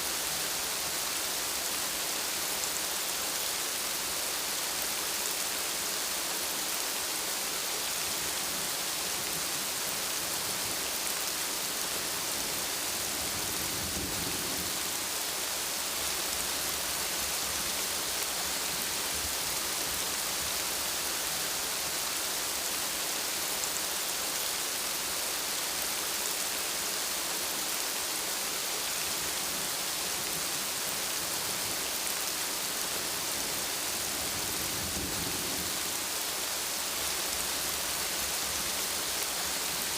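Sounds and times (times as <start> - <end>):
steady heavy rain: 0.0 - 39.9.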